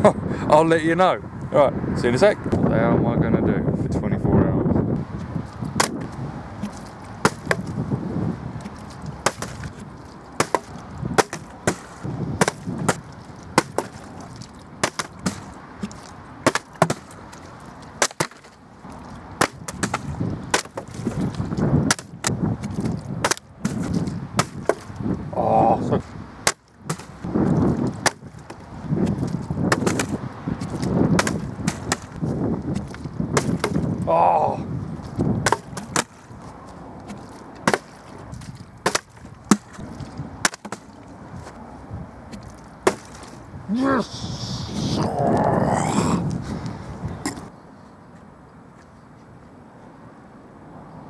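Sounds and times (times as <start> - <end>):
wind buffeting microphone: 0.0 - 18.0, 18.8 - 47.6.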